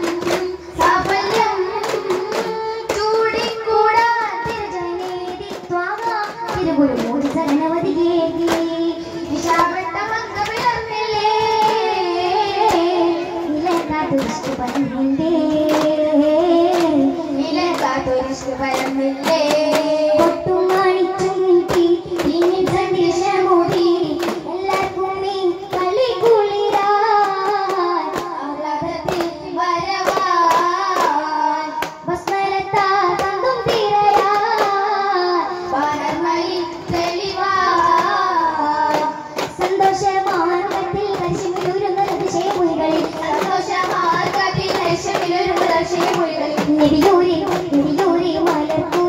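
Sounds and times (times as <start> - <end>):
frame drums beating: 0.0 - 49.0.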